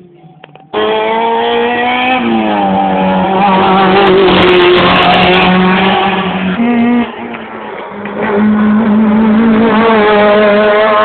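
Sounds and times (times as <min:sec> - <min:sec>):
rally car engine revving high: 0:00.0 - 0:11.0.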